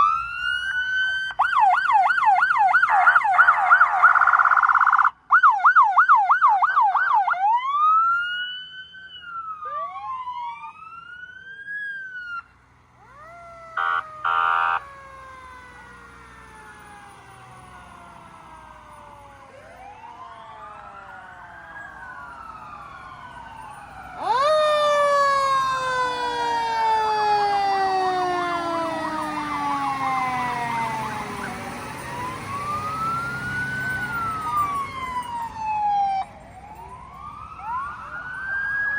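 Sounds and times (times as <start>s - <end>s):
emergency sirens wailing: 0.0s - 38.9s
loud siren falling sweep: 0.0s - 38.9s.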